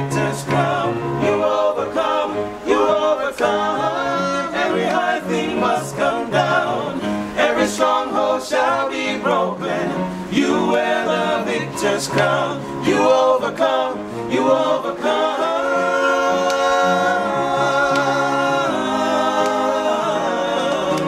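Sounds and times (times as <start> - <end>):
male vocal group singing a cappella: 0.0 - 21.0.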